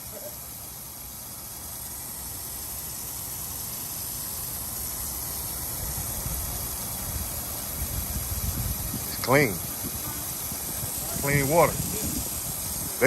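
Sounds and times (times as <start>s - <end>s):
water gushing from hose: 0.0s - 13.0s.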